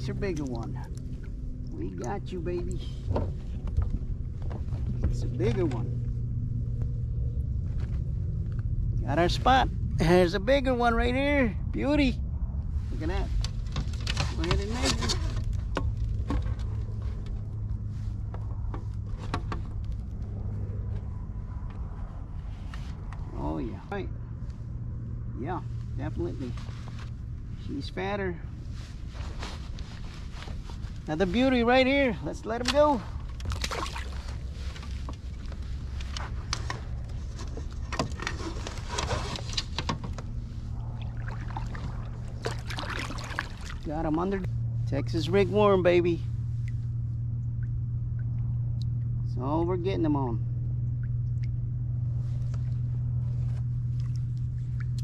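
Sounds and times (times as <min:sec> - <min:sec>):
steady low hum: 0:00.0 - 0:55.0
steady low rumble: 0:00.0 - 0:55.0.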